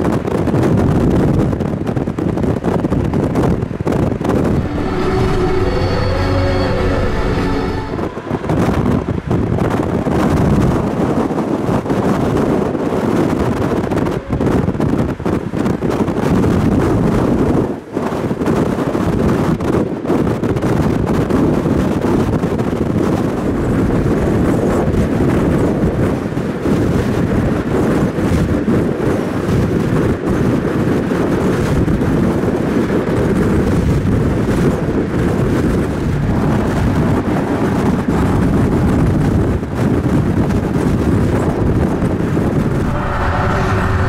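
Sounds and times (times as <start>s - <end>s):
vehicle driving rumble: 0.0s - 19.8s, 21.4s - 44.0s
wind buffeting microphone: 0.0s - 44.0s.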